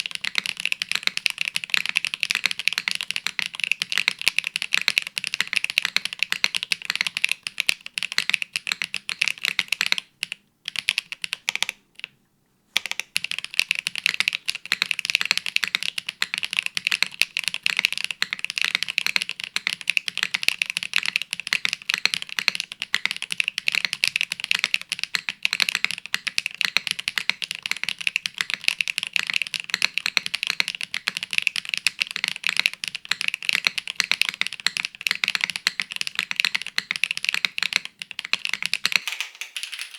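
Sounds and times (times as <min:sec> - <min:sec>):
fast mechanical keyboard typing: 0:00.0 - 0:12.1, 0:12.8 - 0:39.9.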